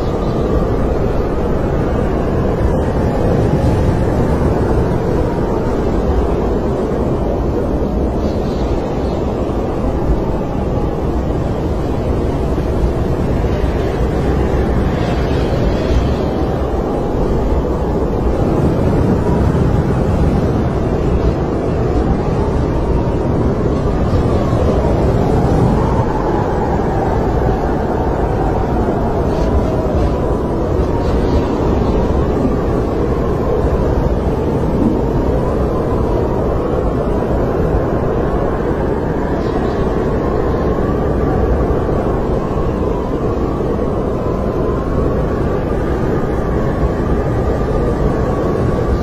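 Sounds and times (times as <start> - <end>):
snowstorm wind blowing: 0.0 - 49.0.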